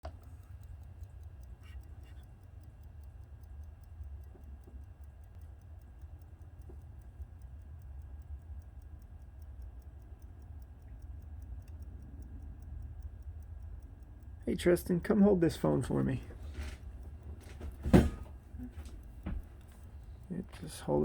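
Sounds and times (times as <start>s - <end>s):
desk clock ticking: 0.0s - 21.0s
steady low hum: 0.0s - 21.0s.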